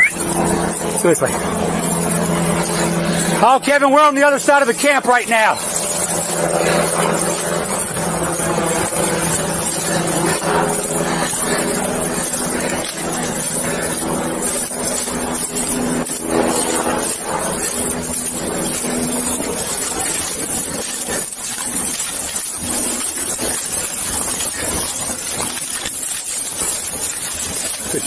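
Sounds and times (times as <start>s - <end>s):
low mechanical drone: 0.0s - 28.0s.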